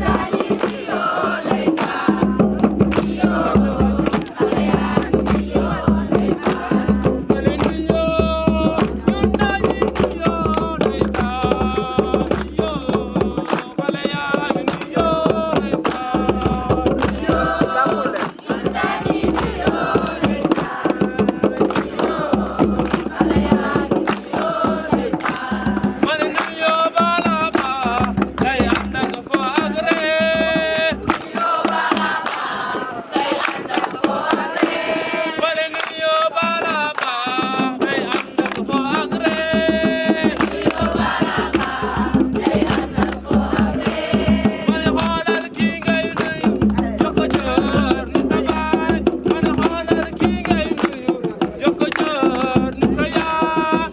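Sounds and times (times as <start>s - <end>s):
group singing: 0.0s - 53.9s
steady percussive beat: 0.0s - 53.9s.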